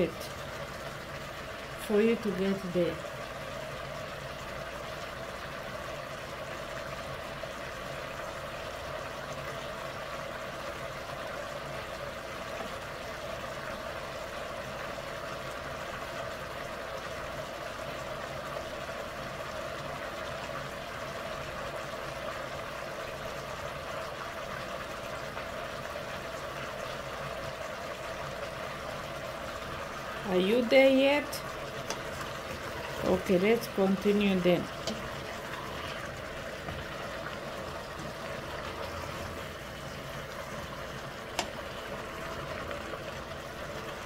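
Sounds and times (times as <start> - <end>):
vegetables frying in a pot: 0.0 - 44.0.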